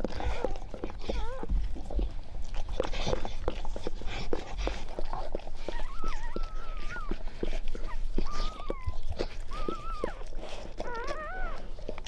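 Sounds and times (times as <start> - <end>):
dog licking puppy: 0.0 - 12.0.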